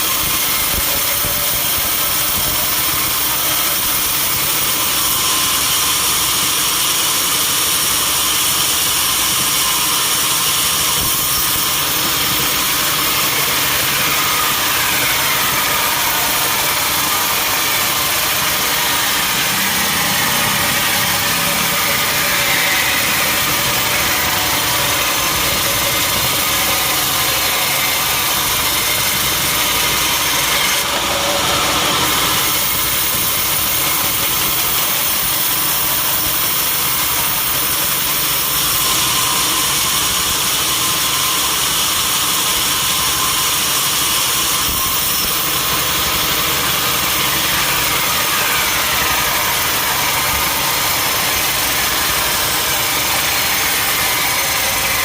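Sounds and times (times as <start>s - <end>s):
sawmill saw running: 0.0s - 55.0s.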